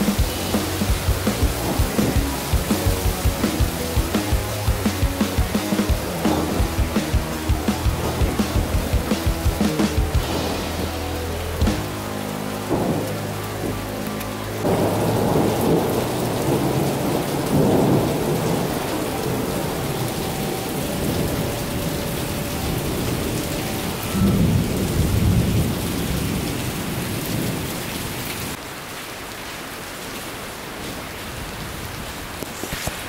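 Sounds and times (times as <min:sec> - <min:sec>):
thunder rumbling: 0:00.0 - 0:14.0, 0:14.6 - 0:27.8
heavy rain pouring: 0:00.0 - 0:33.0.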